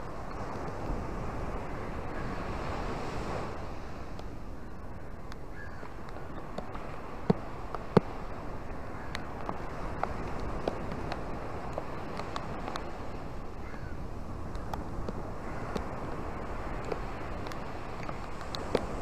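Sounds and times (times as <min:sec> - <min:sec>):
surf waves washing on sand: 0:00.0 - 0:19.0.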